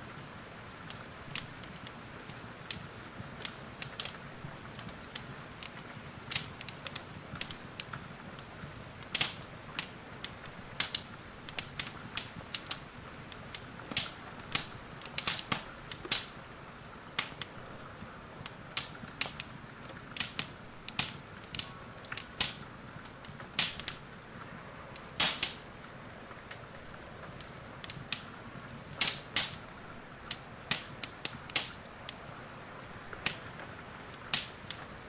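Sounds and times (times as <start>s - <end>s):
faint steady hiss: 0.0s - 35.0s
wood fire crackling and popping: 0.4s - 35.0s.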